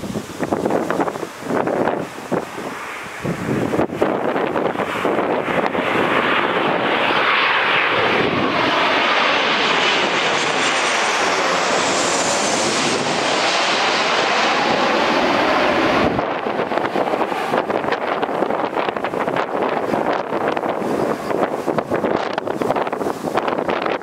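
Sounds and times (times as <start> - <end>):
jet airliner passing overhead: 0.0 - 24.0
wind on microphone: 0.0 - 24.0.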